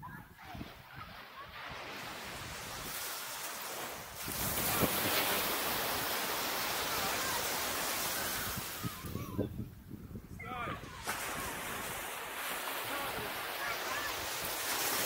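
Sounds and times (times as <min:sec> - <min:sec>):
wind on microphone: 0:00.0 - 0:03.2, 0:03.8 - 0:15.0
waves breaking on beach: 0:00.3 - 0:09.4, 0:10.4 - 0:15.0.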